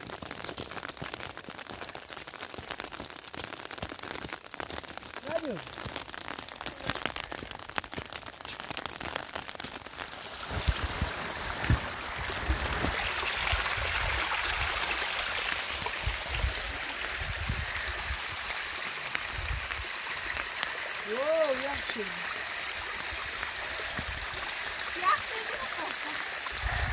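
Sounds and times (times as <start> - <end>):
rain pattering: 0.0 - 26.9
rainwater rushing down rocky channel: 0.0 - 26.9.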